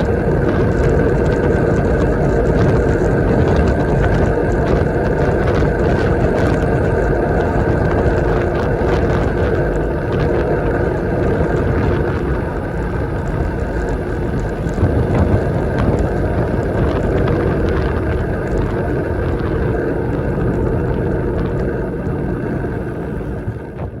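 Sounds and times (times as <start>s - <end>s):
road noise: 0.0s - 24.0s
wind rushing on microphone: 0.0s - 24.0s.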